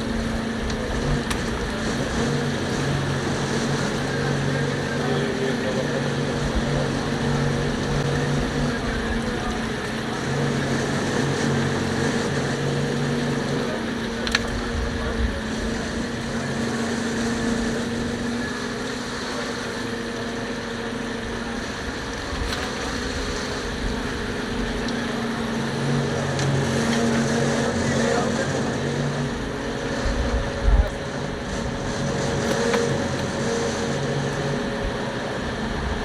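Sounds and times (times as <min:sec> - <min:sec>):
boat engine humming: 0:00.0 - 0:36.0.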